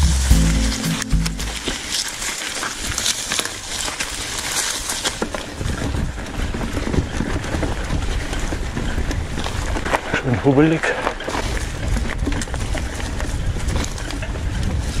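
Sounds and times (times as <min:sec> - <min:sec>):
bike rattling and clicking: 0:02.8 - 0:15.0.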